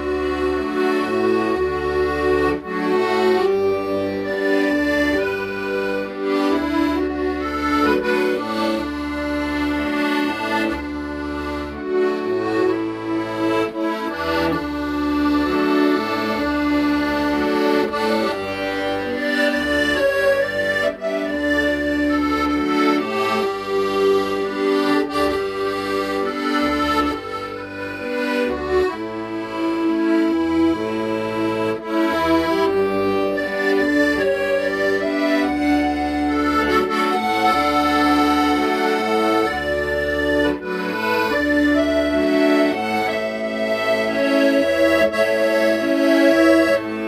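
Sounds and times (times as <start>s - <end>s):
accordion slow melody: 0.0s - 47.0s
deep bass notes: 0.0s - 47.0s.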